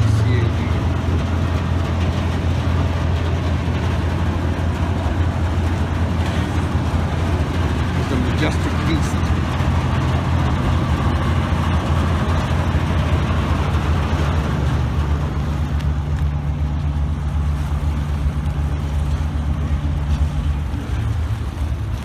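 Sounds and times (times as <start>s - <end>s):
boat diesel engine drone: 0.0s - 22.0s
water wash: 0.0s - 22.0s.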